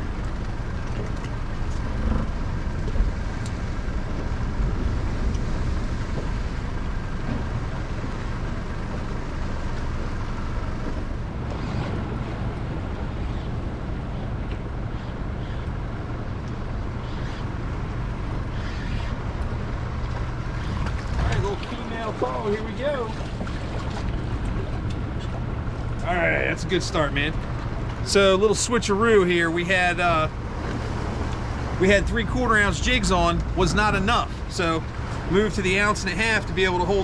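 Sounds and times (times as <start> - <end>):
faint constant hum: 0.0 - 37.0
wind rumble on microphone: 0.0 - 37.0.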